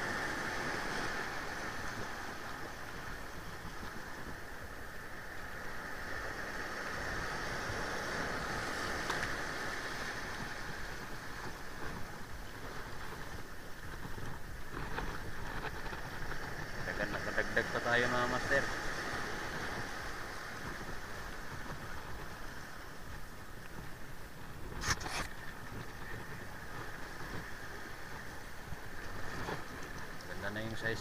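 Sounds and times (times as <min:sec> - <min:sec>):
waves breaking over rocks: 0:00.0 - 0:31.0.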